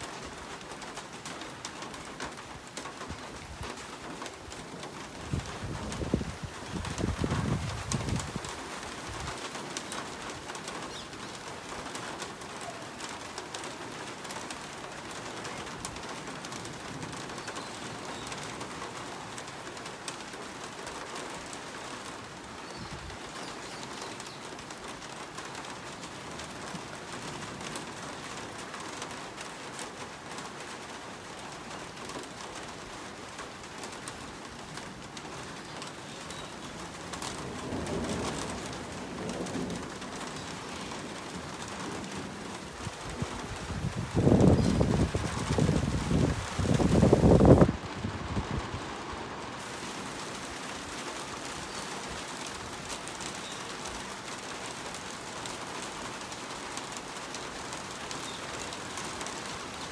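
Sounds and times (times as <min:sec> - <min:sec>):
hail and rain striking surfaces: 0:00.0 - 0:59.9.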